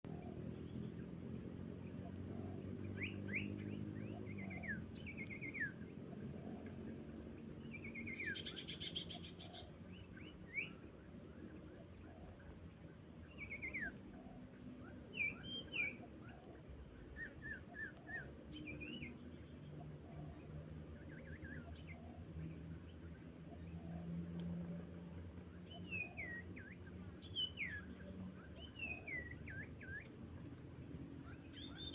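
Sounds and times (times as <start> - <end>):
songbirds chirping and trilling: 0.0 - 31.9.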